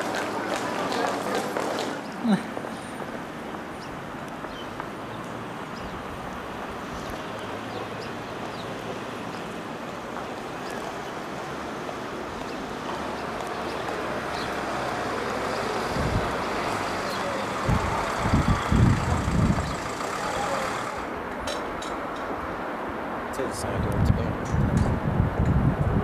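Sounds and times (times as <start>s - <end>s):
distant traffic: 0.0s - 26.0s
wind: 0.0s - 26.0s.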